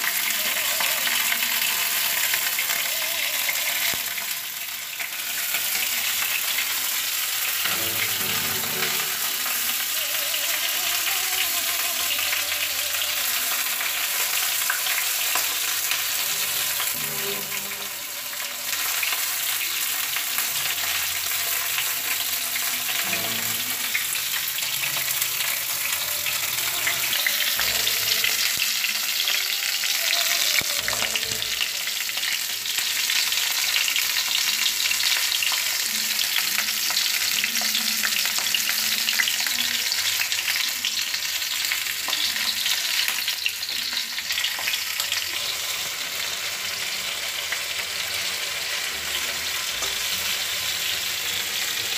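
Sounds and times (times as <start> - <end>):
food sizzling in hot oil: 0.0 - 51.9.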